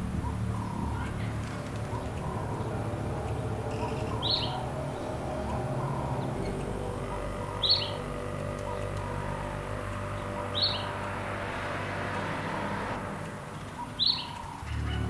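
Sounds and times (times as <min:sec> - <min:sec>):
bird chirping: 0:00.0 - 0:15.0
low background hum: 0:00.0 - 0:15.0.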